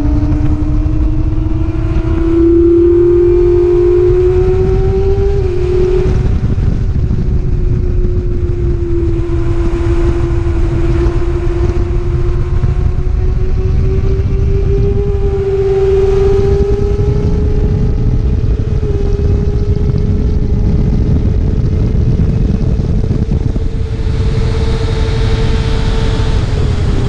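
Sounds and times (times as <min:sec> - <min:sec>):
racing motorcycle engine revving: 0:00.0 - 0:27.0
wind rush: 0:00.0 - 0:27.0.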